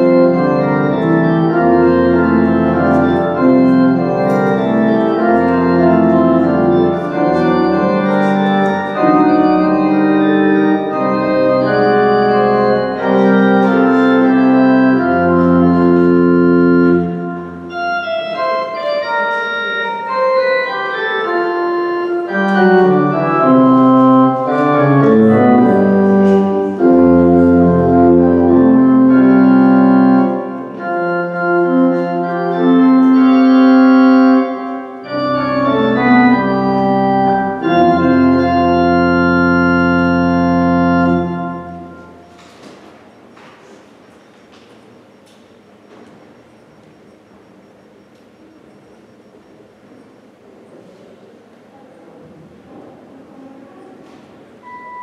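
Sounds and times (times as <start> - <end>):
organ playing held chords: 0.0 - 51.0, 54.4 - 55.0.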